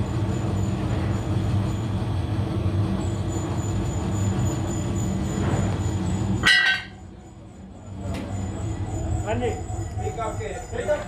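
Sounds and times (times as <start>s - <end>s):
workshop machinery drone: 0.0s - 11.0s.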